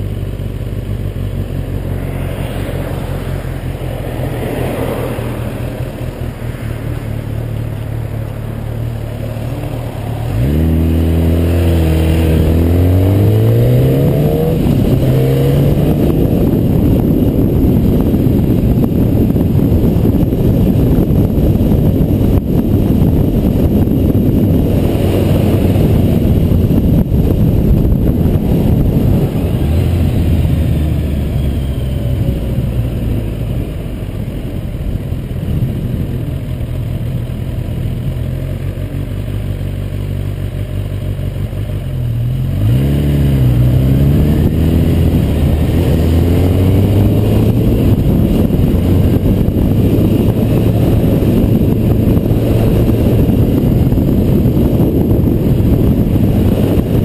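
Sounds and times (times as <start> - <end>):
motorcycle engine accelerating: 0.0 - 57.0
wind rush: 1.4 - 38.4, 42.5 - 57.0.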